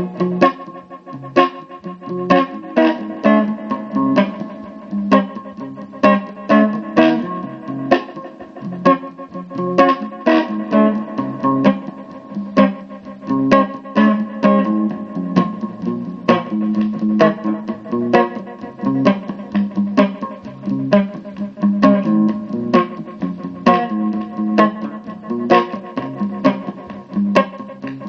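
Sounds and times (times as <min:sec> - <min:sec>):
amplified guitar chords strummed: 0:00.0 - 0:28.0.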